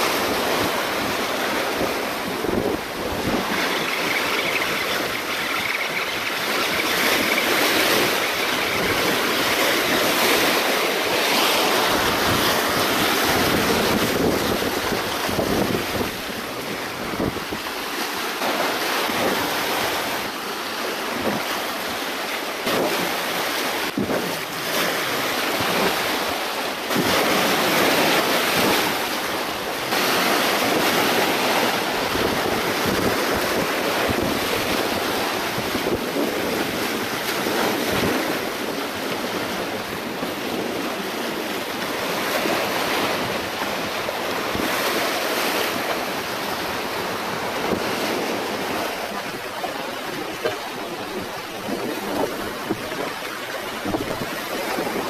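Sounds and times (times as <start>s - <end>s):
waves washing over rocks: 0.0s - 55.0s
wind buffeting microphone: 0.0s - 55.0s.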